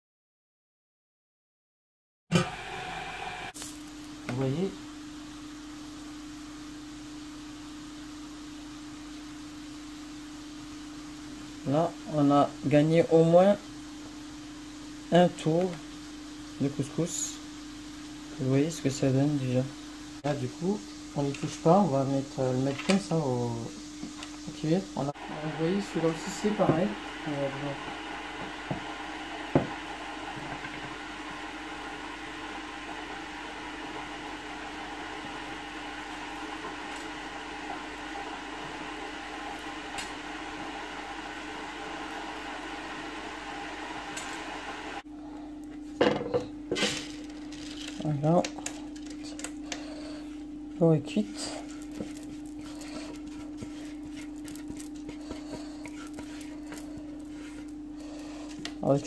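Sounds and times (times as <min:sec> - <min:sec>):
appliance humming: 0:02.3 - 0:59.0.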